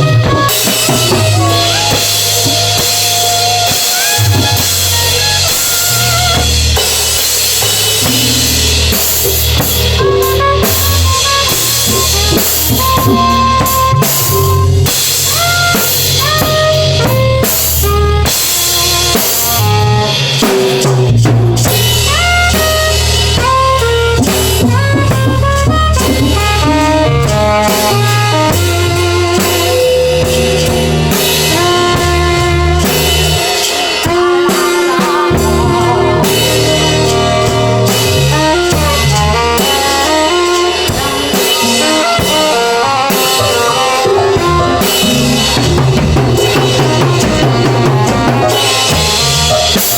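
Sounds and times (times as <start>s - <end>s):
bass line: 0.0s - 49.9s
drum kit: 0.0s - 49.9s.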